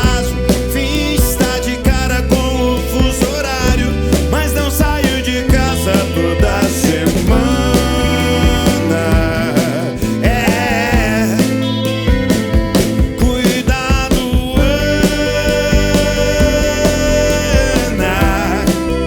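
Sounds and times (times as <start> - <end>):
rock band playing live: 0.0 - 19.0
wavering lead line: 0.0 - 19.0.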